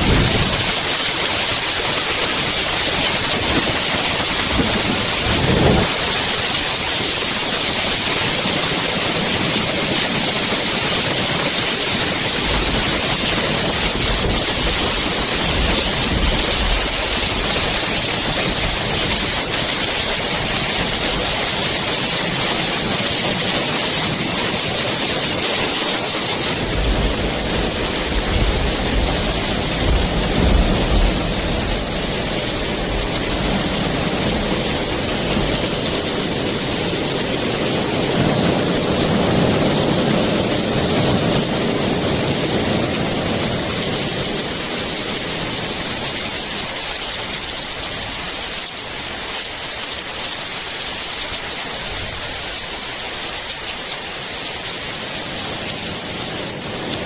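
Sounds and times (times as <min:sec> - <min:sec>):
distant thunder rumbles: 0:00.0 - 0:48.6
heavy rain hissing: 0:00.0 - 0:57.0.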